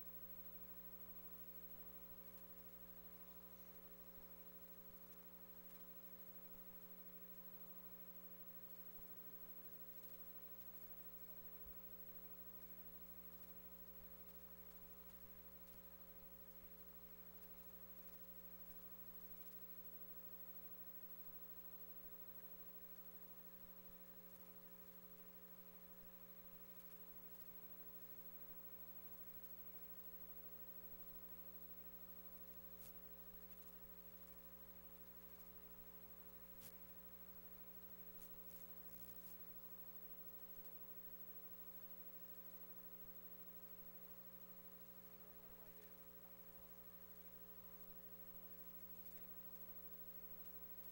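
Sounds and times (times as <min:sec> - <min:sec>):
faint electrical hum: 0:00.0 - 0:50.9
faint ticks: 0:00.0 - 0:50.9.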